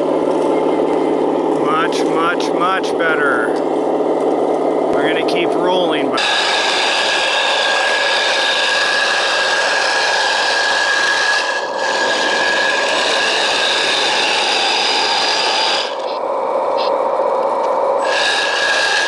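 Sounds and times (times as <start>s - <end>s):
toy roller buzzing whine: 0.0s - 19.0s.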